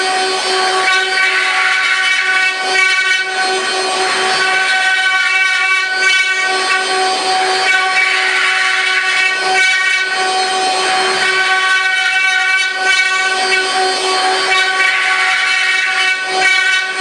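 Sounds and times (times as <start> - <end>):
cutters carving wood: 0.0 - 17.0
router spindles whining: 0.0 - 17.0.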